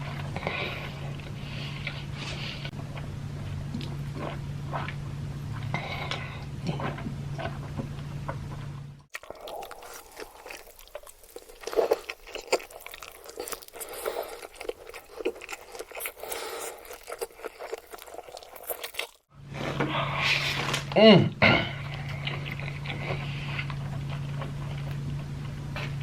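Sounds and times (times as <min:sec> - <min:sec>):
chewing and crunching noodles: 0:00.0 - 0:19.3, 0:21.8 - 0:26.0.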